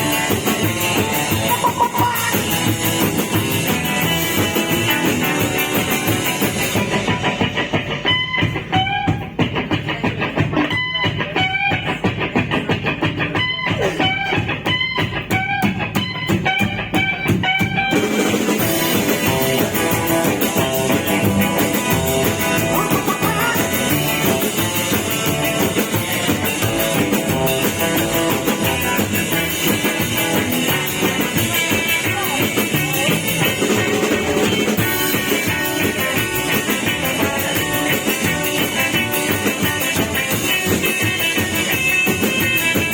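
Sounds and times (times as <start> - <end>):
instrumental rock music: 0.0 - 42.9.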